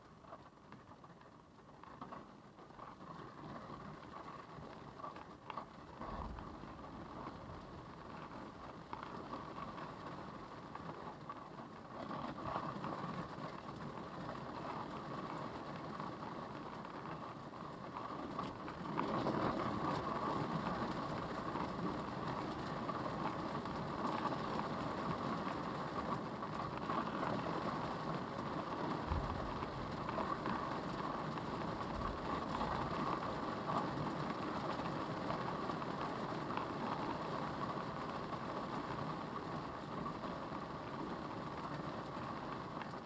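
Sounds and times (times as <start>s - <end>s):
wind and rain beating on a car: 0.0s - 43.0s.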